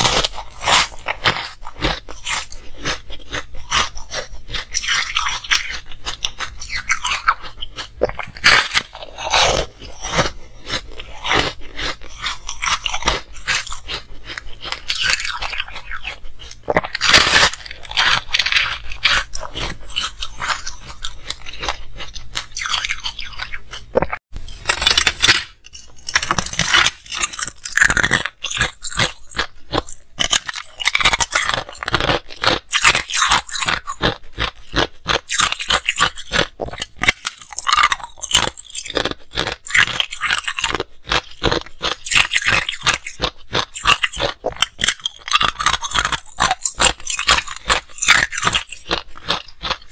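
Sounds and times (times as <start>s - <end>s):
ice crunched between teeth: 0.0s - 49.9s.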